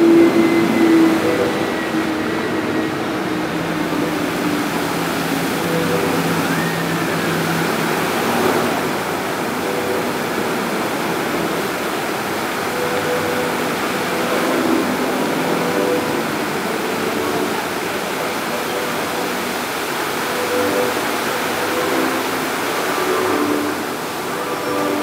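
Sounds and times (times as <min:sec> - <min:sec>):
fountain water splashing into pool: 0:03.7 - 0:25.0.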